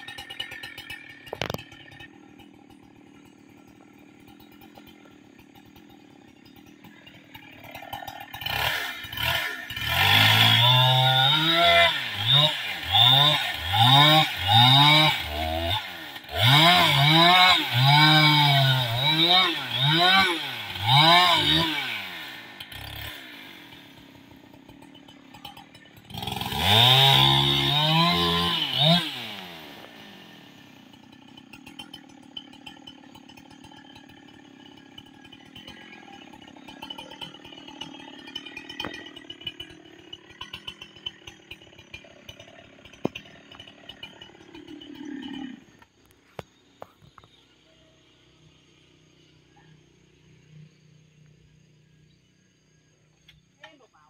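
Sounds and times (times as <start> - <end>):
chainsaw revving: 0.0 - 47.2.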